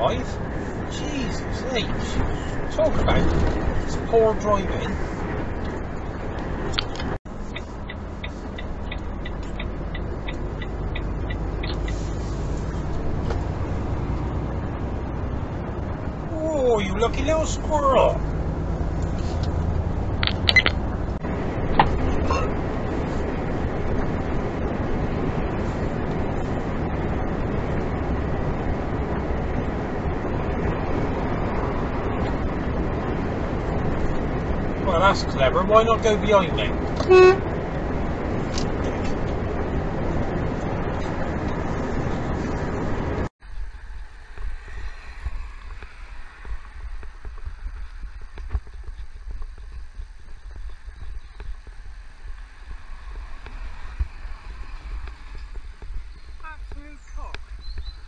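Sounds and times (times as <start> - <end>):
vehicle road and engine noise: 0.0 - 58.0
wind rumble on microphone: 0.0 - 58.0.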